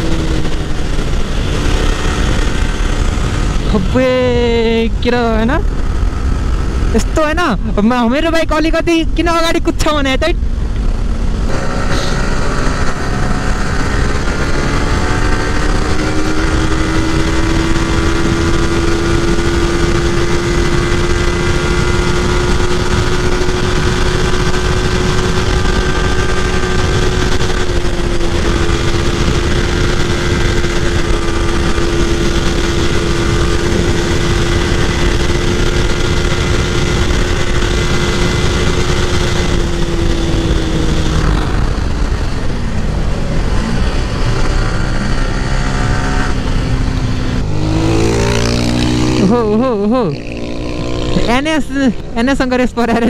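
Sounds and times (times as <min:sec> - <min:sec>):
motorcycle engine revving high: 0:00.0 - 0:53.0
wind rush on microphone: 0:00.0 - 0:53.0.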